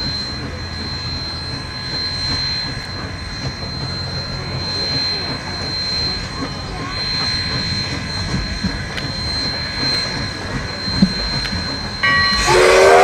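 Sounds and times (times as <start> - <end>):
steam locomotive rushing steam: 0.0 - 13.0.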